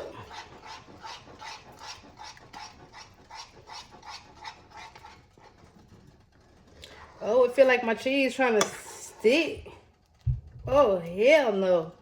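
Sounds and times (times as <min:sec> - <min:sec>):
spoon stirring thick sauce: 0:00.0 - 0:11.8.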